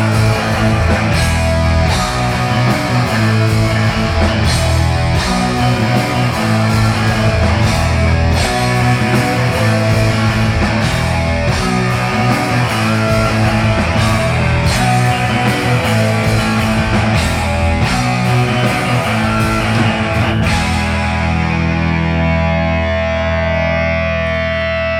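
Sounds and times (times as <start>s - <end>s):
distorted guitar chord ringing: 0.0s - 24.9s
heavy metal band playing live: 0.0s - 24.9s.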